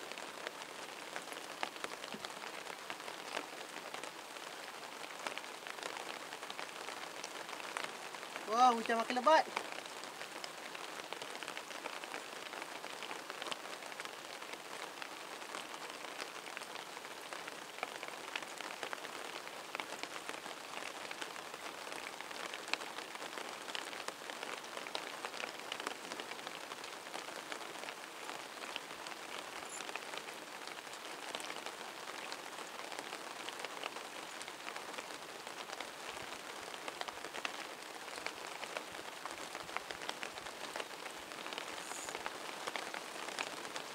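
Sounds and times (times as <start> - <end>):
heavy rain pattering: 0.0 - 43.9.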